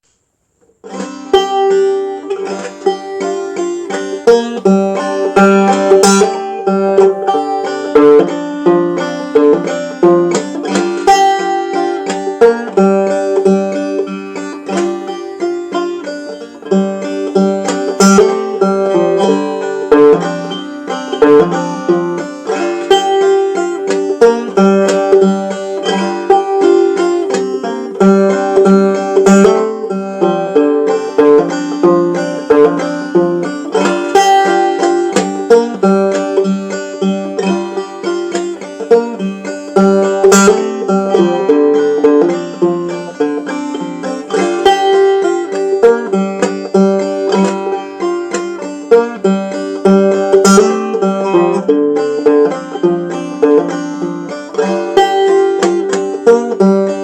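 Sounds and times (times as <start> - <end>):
banjo plucked notes: 0.0 - 57.0.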